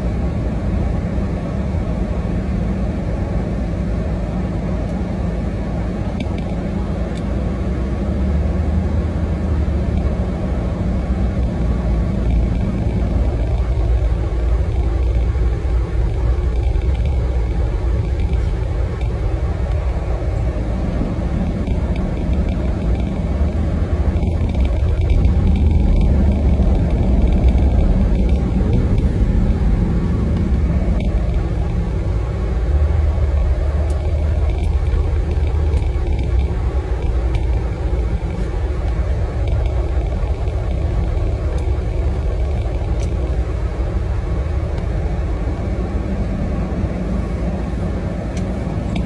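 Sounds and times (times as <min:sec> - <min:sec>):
car engine rumble from inside: 0:00.0 - 0:49.0.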